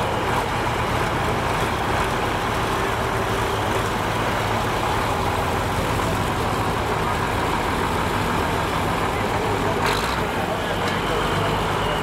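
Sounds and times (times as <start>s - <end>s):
engine humming steadily: 0.0s - 12.0s
outdoor background noise: 0.0s - 12.0s.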